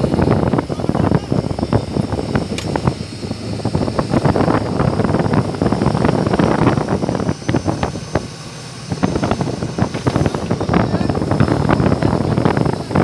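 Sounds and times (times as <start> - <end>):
speedboat engine running: 0.0 - 13.0
wind buffeting microphone: 0.0 - 13.0.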